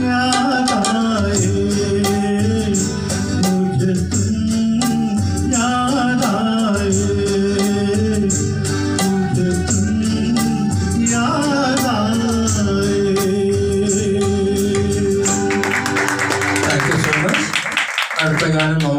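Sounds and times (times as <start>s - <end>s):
man singing: 0.0s - 15.9s
tabla: 0.0s - 17.1s
guitar: 0.0s - 17.6s
organ-like electronic keyboard: 0.0s - 17.6s
drum strokes keeping a beat: 0.0s - 18.9s.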